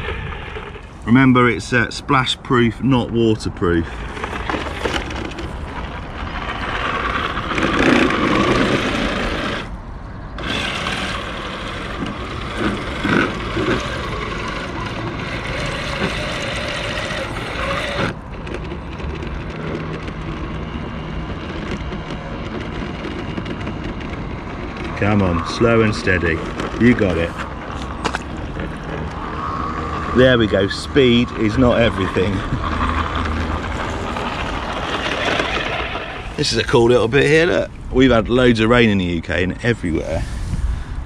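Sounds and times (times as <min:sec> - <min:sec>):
toy truck electric motor and gears: 0:00.0 - 0:01.2, 0:03.6 - 0:09.8, 0:10.4 - 0:38.6.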